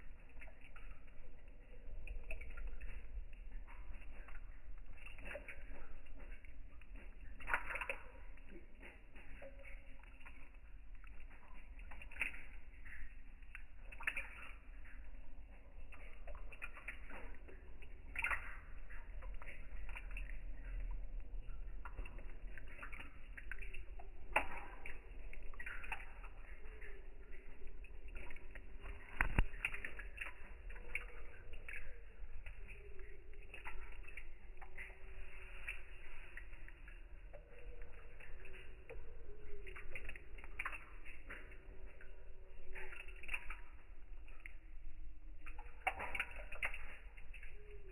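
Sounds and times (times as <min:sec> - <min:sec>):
water splashing and dripping: 0:00.0 - 0:47.9.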